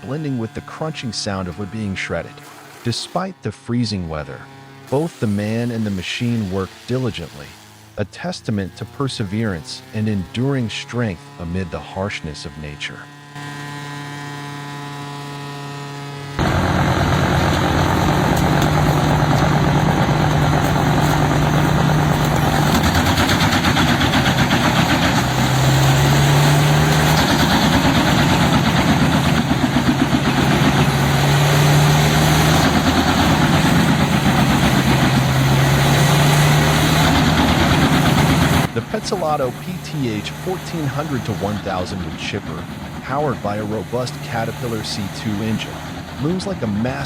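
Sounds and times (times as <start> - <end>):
steady hum: 0.0 - 47.0
wood chipper diesel engine running: 0.0 - 47.0.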